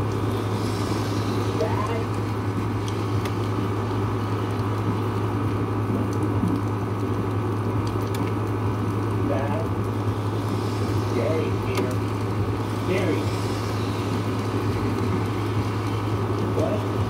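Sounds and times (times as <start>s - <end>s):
low hum: 0.0s - 17.0s
steady rain falling: 0.0s - 17.0s.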